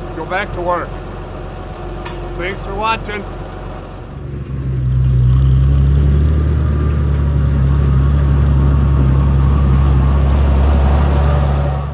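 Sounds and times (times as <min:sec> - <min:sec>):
tractor engine droning: 0:00.0 - 0:11.9.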